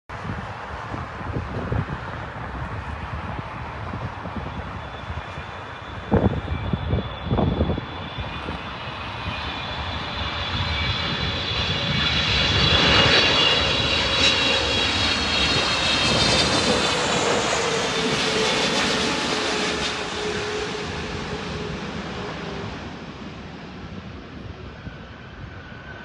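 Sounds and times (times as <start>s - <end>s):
jet engines whining and roaring: 0.1s - 26.0s.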